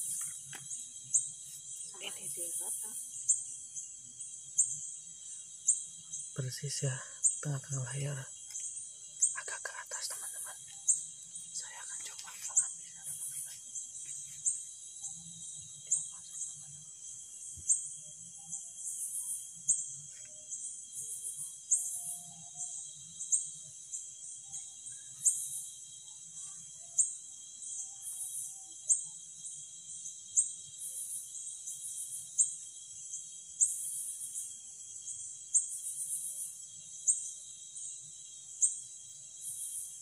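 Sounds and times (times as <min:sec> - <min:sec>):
crickets chirping: 0:00.0 - 0:40.0
steady high insect whine: 0:00.0 - 0:40.0.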